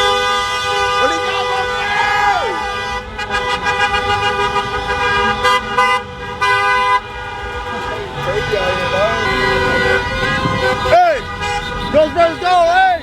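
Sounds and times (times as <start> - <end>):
car horns honking: 0.0 - 13.0.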